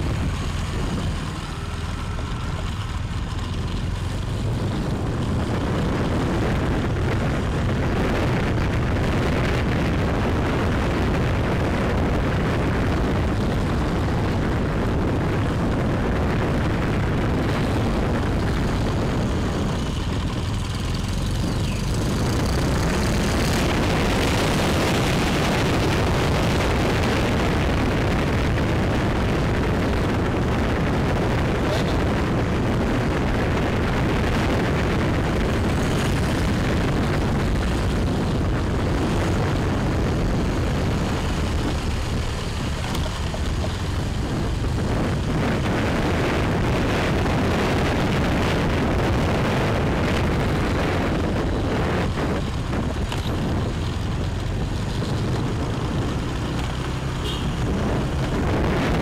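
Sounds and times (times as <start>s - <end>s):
motorbike engine: 0.0s - 59.0s
road noise: 0.0s - 59.0s
wind buffeting microphone: 0.0s - 59.0s.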